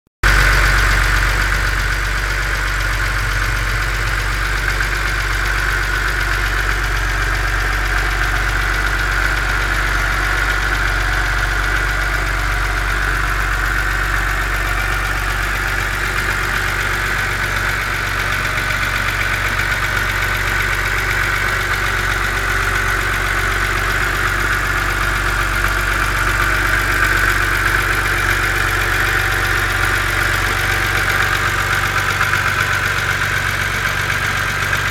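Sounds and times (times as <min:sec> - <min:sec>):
car engine idling: 0:00.2 - 0:34.9
engine ticking: 0:00.2 - 0:34.9.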